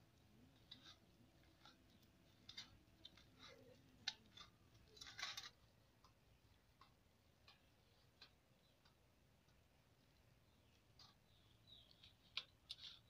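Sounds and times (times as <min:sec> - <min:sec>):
hand kneading dough crackling: 0:00.0 - 0:13.0.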